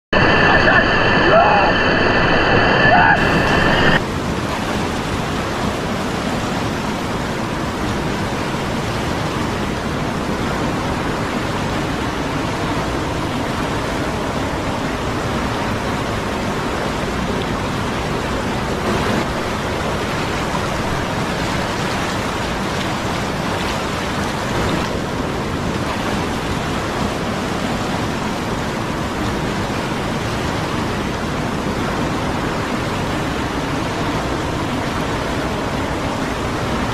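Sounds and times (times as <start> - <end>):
fast river rushing: 0.2 - 36.9.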